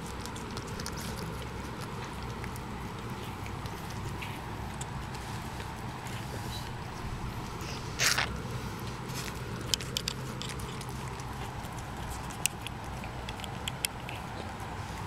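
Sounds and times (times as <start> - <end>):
cat licking wet mouth clicks: 0.0 - 8.4, 9.3 - 14.7
steady low hum: 0.0 - 15.0.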